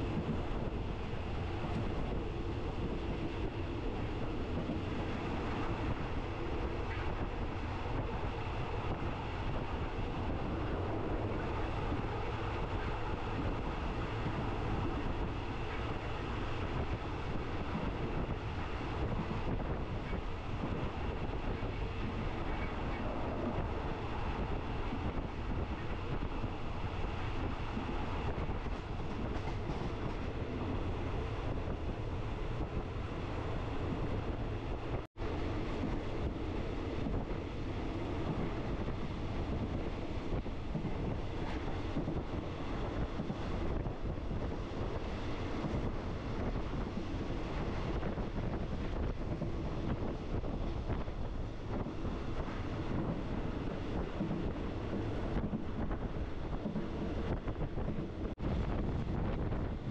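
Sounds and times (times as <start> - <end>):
train rumbling and rattling on track: 0.0 - 59.9.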